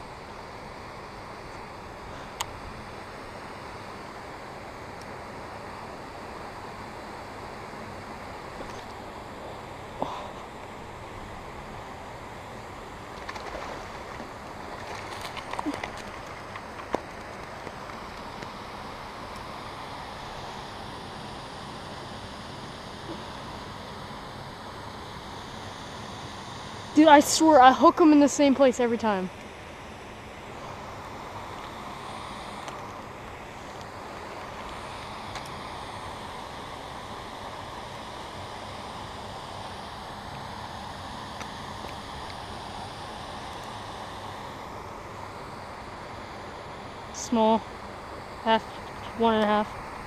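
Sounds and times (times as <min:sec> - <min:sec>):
outdoor background hiss: 0:00.0 - 0:50.0.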